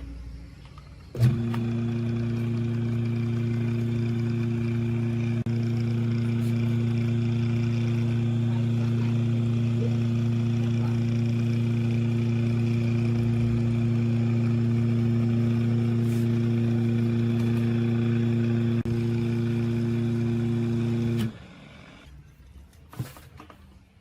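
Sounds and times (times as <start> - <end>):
air compressor motor humming: 0.0 - 22.1.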